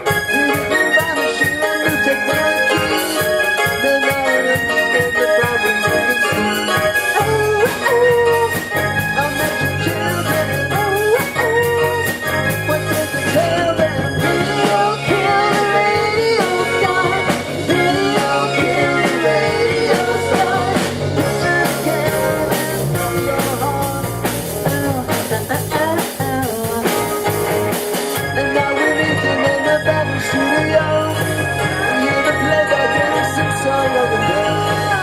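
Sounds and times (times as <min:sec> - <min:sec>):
drums keeping steady beat: 0:00.0 - 0:35.0
live rock band playing: 0:00.0 - 0:35.0
wavering melody line: 0:00.0 - 0:35.0.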